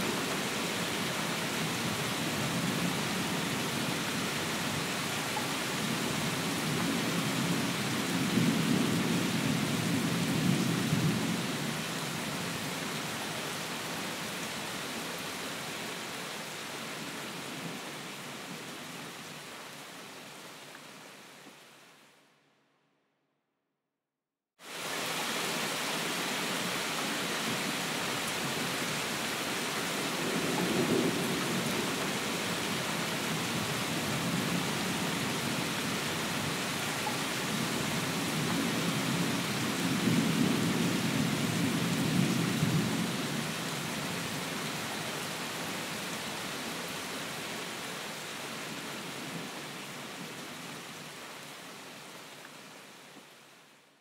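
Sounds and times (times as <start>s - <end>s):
steady rain hiss: 0.0s - 22.4s, 24.6s - 54.0s.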